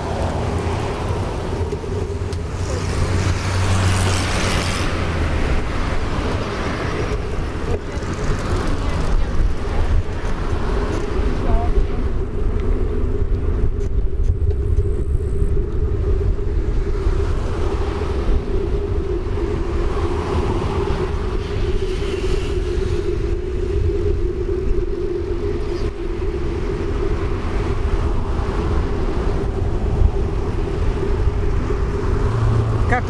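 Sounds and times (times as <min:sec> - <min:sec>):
bicycle tyre rumbling on asphalt: 0:00.0 - 0:33.0
cars passing: 0:00.0 - 0:33.0.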